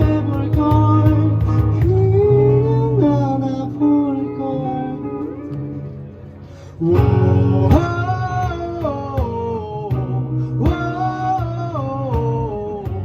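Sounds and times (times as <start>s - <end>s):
acoustic pop band playing: 0.0s - 13.0s.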